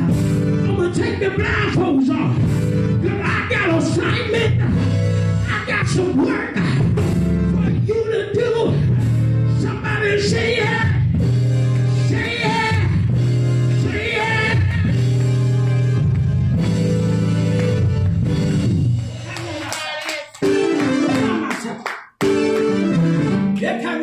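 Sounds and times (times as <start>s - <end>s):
gospel music: 0.0s - 24.0s.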